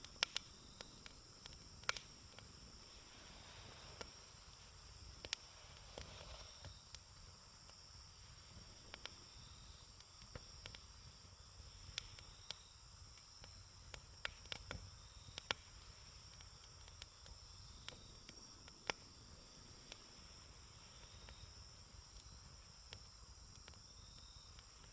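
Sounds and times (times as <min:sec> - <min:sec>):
insects trilling: 0:00.0 - 0:24.9
wood fire crackling: 0:00.0 - 0:24.9.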